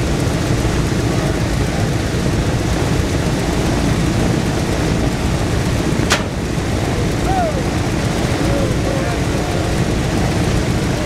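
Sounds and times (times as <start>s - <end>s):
radial aircraft engines rumbling: 0.0s - 11.0s.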